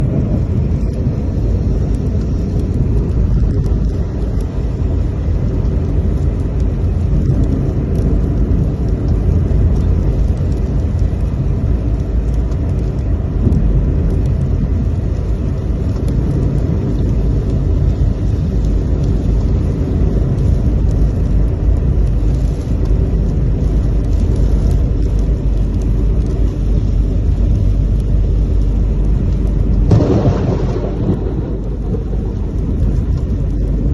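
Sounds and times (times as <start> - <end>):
low rumbling roar: 0.0 - 33.9.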